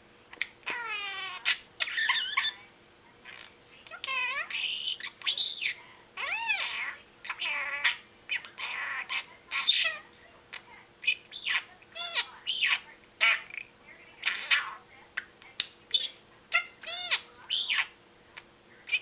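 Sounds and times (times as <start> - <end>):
budgerigar chattering and chirping: 0.3 - 2.6, 3.2 - 18.0.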